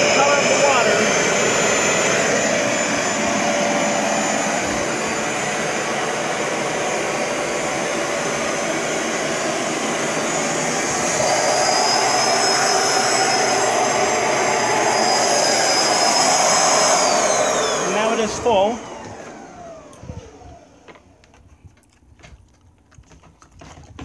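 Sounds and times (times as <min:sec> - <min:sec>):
carpet cleaner motor whining: 0:00.0 - 0:21.5.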